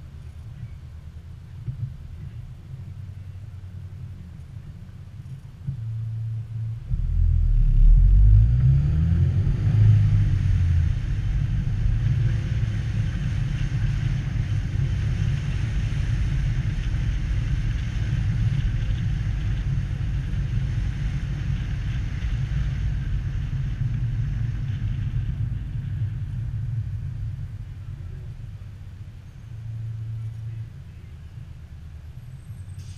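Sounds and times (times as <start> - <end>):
tyre and wind noise: 0.0 - 32.9
car engine accelerating: 4.0 - 32.9.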